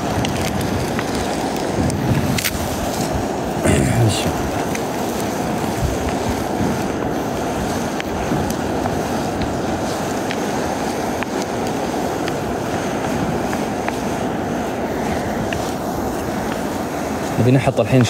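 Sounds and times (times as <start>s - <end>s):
small pops and ticks: 0.0s - 3.1s, 4.4s - 7.2s, 7.8s - 14.1s, 15.0s - 18.0s
gas stove flame rushing: 0.0s - 18.0s.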